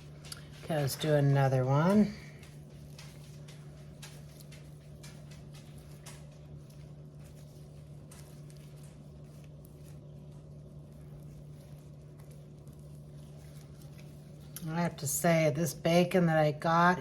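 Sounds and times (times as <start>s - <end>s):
soft squishes: 0.0s - 16.9s
steady low hum: 0.0s - 17.0s.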